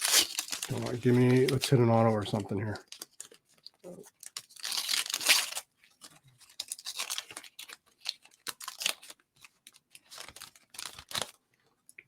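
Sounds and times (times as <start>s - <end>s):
card pack wrapper ripping: 0.0s - 11.4s
wrapper crinkling: 0.0s - 11.4s.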